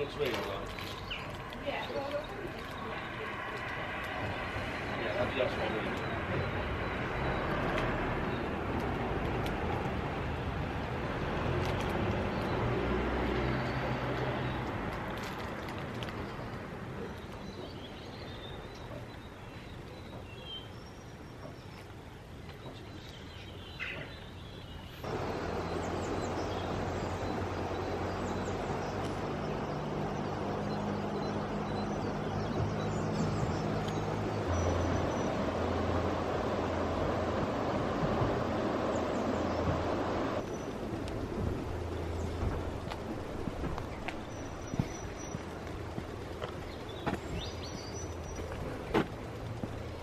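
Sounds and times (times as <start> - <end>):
rushing wind: 0.0 - 17.0, 25.0 - 50.0
road noise: 0.0 - 50.0.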